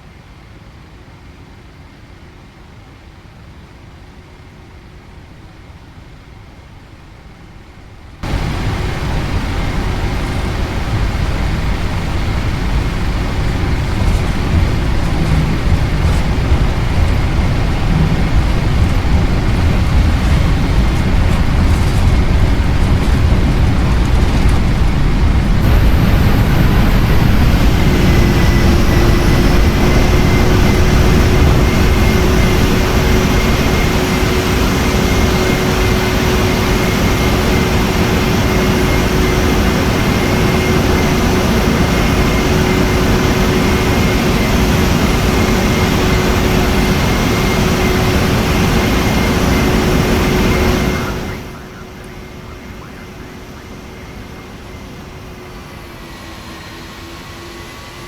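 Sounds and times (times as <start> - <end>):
jet engine roar in cabin: 0.0 - 58.0
engine whine: 8.2 - 58.0.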